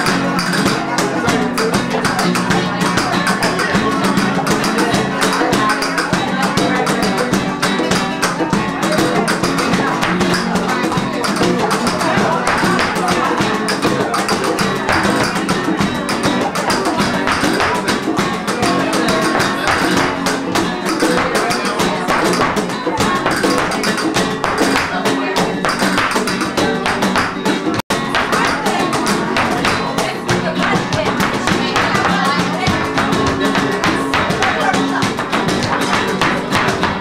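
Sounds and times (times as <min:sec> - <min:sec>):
acoustic flamenco guitars: 0:00.0 - 0:37.0
cajon beat: 0:00.0 - 0:37.0
hand clapping: 0:00.0 - 0:37.0.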